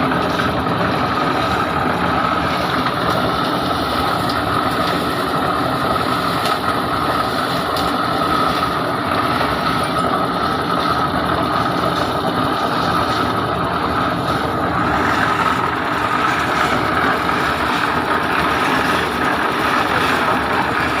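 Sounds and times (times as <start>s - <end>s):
large engine running steadily: 0.0s - 21.0s
steady high whine: 0.0s - 21.0s.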